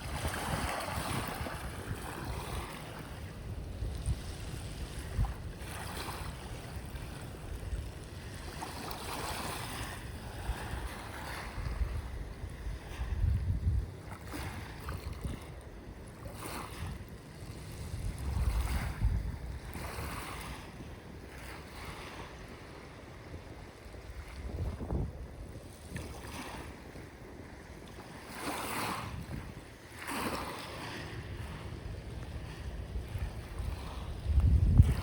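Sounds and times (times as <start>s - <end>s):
wind buffeting microphone: 0.0s - 26.8s, 28.6s - 35.0s
ocean waves washing in: 0.0s - 35.0s.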